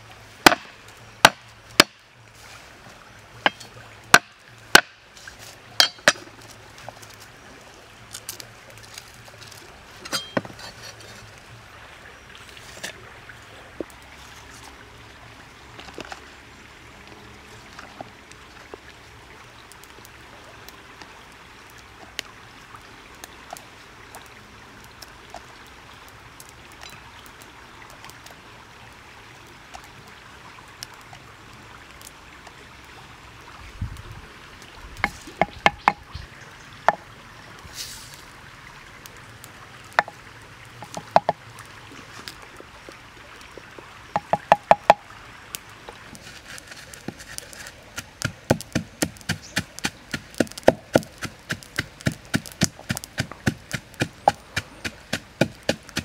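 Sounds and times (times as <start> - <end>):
faint background hiss: 0.0 - 56.0.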